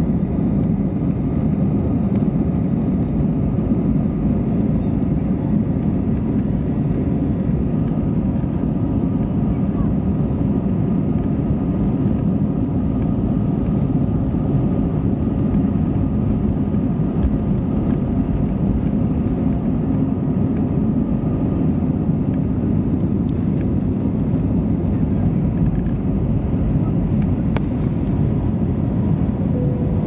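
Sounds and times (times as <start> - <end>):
faint engine whine: 0.0 - 30.0
jet engines rumbling in cabin: 0.0 - 30.0.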